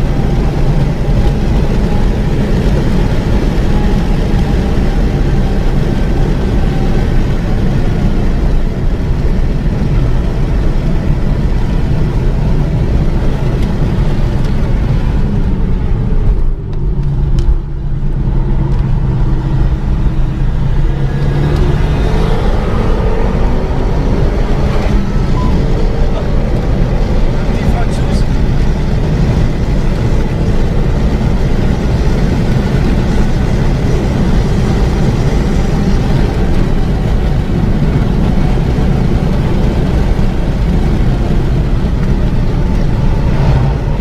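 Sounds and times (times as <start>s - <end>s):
car engine pulling hard: 0.0s - 44.0s
road and wind noise: 0.0s - 44.0s.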